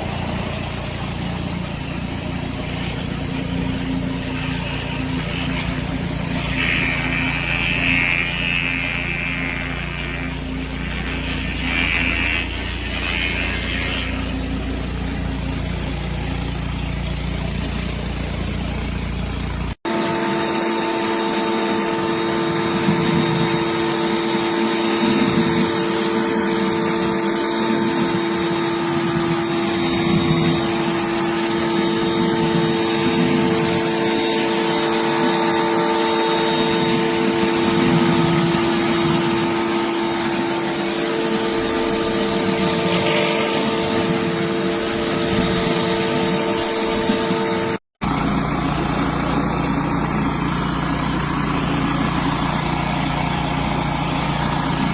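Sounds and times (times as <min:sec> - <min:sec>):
high-pressure water spraying: 0:00.0 - 0:54.9
pressure washer running: 0:00.0 - 0:54.9.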